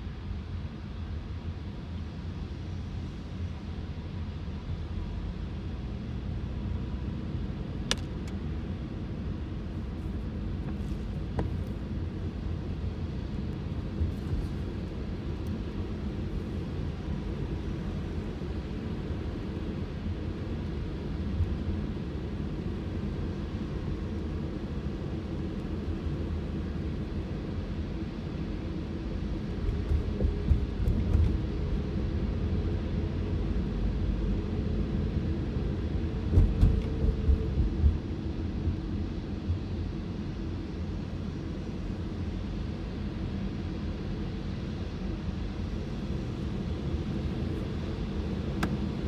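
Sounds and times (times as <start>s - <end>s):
car road noise rumble: 3.6s - 49.0s.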